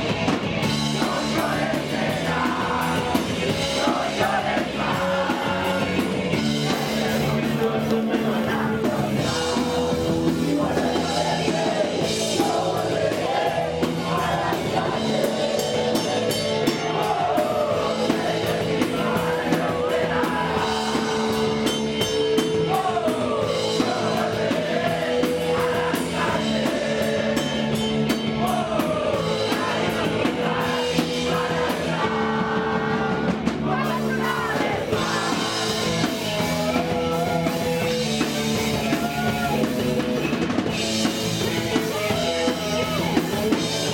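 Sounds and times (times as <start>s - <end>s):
drum kit: 0.0s - 43.9s
electric guitar: 0.0s - 43.9s.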